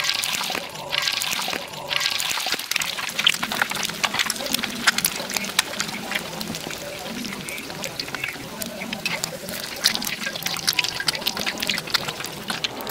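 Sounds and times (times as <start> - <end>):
egg sizzling in hot oil: 0.0 - 12.9
oil crackling and popping: 0.0 - 12.9.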